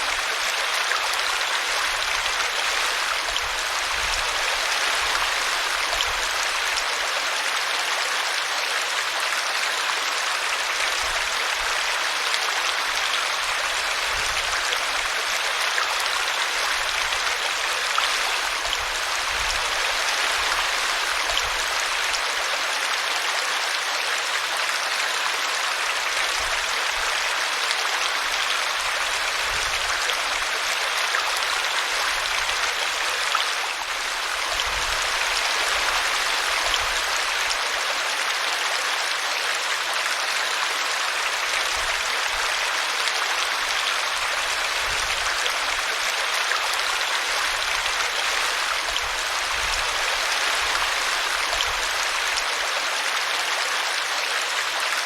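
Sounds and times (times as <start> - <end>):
brook water flowing: 0.0 - 55.0.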